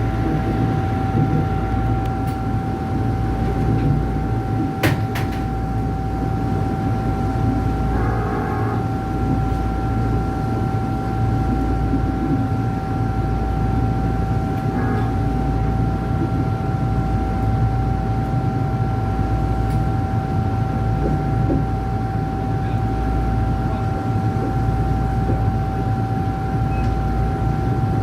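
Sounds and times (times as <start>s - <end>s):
electric train rumble: 0.0s - 28.0s.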